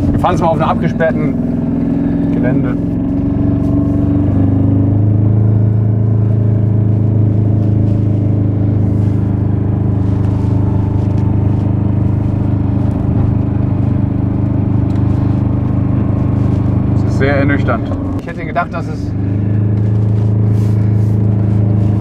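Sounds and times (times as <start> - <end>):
diesel engine running inside car: 0.0 - 22.0.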